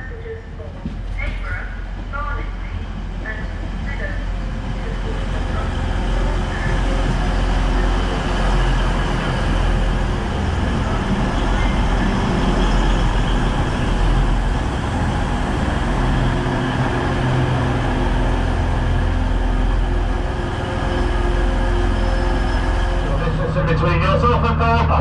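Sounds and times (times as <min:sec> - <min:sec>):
diesel engine drone: 0:00.0 - 0:25.0
train rumbling along rails: 0:00.0 - 0:25.0.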